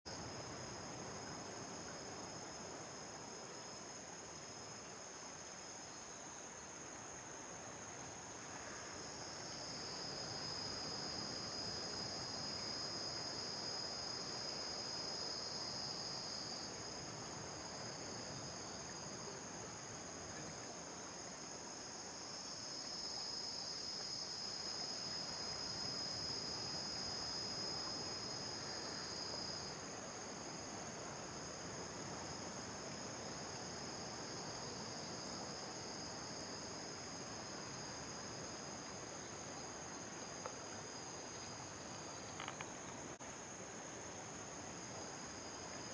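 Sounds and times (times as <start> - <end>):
high-pitched insect chorus: 0.1 - 45.9.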